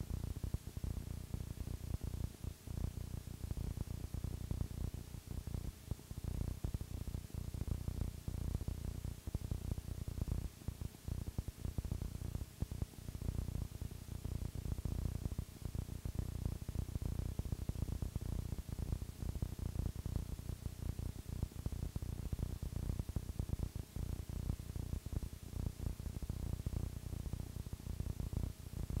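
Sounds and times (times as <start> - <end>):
fluttering static and hum: 0.0 - 29.0.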